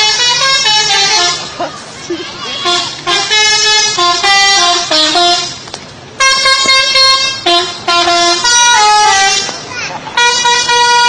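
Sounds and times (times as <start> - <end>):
musical air horn tune: 0.0 - 1.6, 2.5 - 5.6, 6.2 - 11.0.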